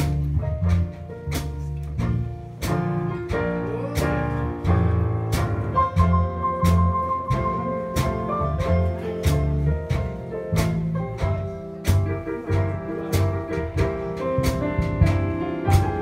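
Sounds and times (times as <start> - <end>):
jazz band playing slow ballad: 0.0 - 16.0
walking bass line: 0.0 - 16.0.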